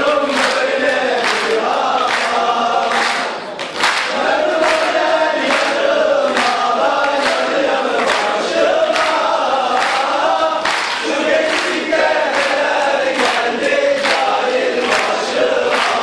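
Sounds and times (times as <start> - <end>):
men chanting in unison: 0.0 - 3.4, 4.1 - 16.0.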